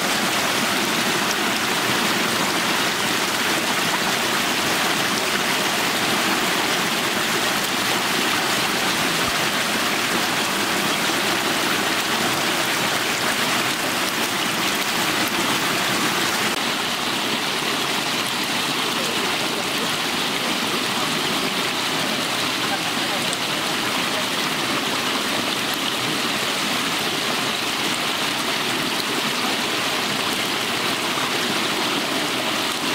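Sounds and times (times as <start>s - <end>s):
river water rushing and splashing: 0.0s - 32.9s.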